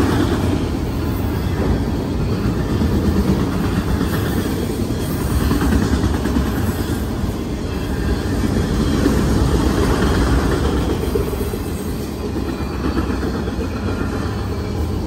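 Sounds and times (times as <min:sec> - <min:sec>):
train wheels rumbling on bridge: 0:00.0 - 0:15.0.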